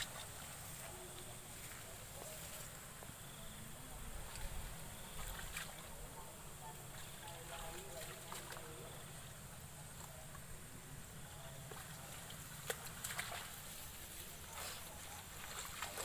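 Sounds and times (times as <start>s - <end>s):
wet leaves rustling: 0.0s - 16.0s.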